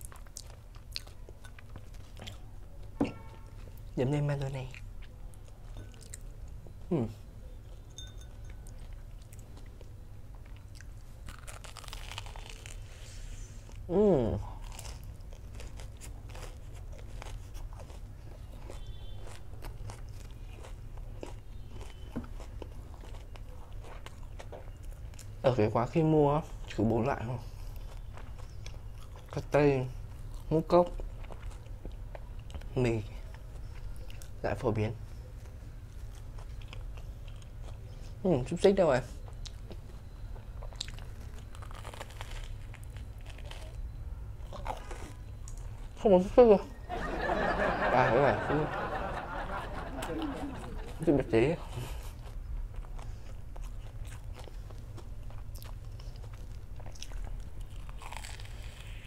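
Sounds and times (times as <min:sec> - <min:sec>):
chewing crunchy food: 0:00.0 - 0:13.0, 0:13.6 - 0:46.0, 0:48.2 - 0:59.0
steady low hum: 0:00.0 - 0:59.0.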